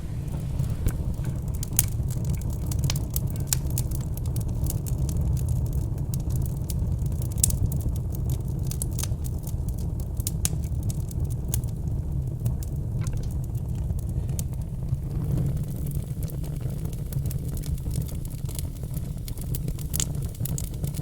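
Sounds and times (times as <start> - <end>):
fire crackling and popping: 0.0 - 21.0
low fire rumble: 0.0 - 21.0.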